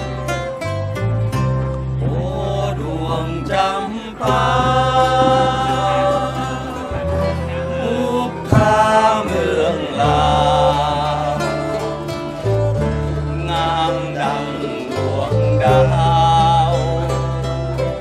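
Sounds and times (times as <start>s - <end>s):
bass notes: 0.0s - 18.0s
plucked lutes and guitars: 0.0s - 18.0s.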